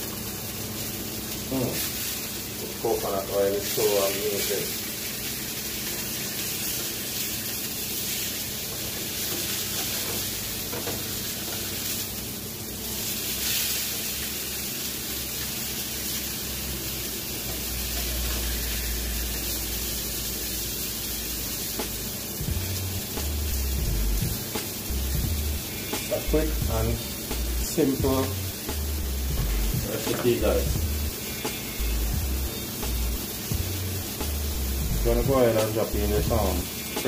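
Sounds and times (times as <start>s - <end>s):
fish sizzling in a pan: 0.0s - 37.0s.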